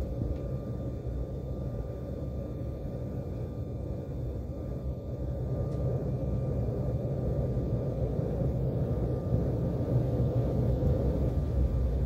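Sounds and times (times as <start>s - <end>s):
faint thin whine: 0.0s - 12.0s
jet engine rumble in cabin: 0.0s - 12.0s.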